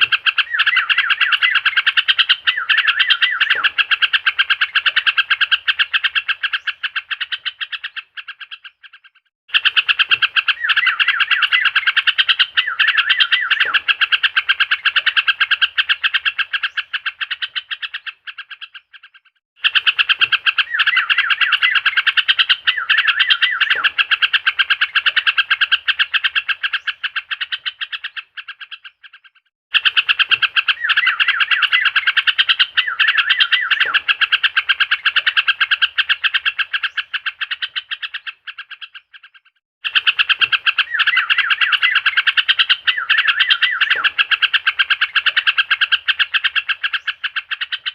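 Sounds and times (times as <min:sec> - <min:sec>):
bird chattering song: 0:00.0 - 0:47.9.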